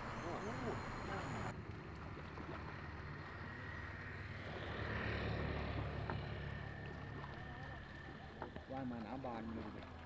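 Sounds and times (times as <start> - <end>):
low engine hum: 0.0 - 10.0
outdoor background noise: 0.0 - 10.0.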